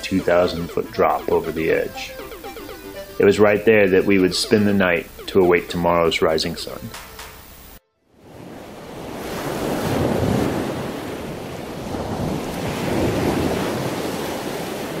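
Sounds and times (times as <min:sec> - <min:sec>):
ocean waves washing: 0:00.0 - 0:15.0.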